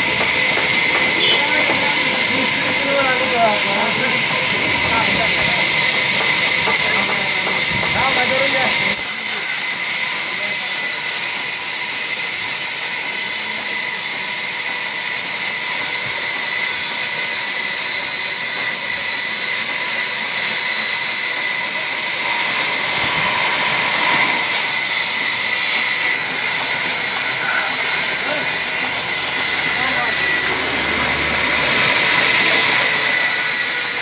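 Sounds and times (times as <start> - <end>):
band saw whirring: 0.0 - 34.0.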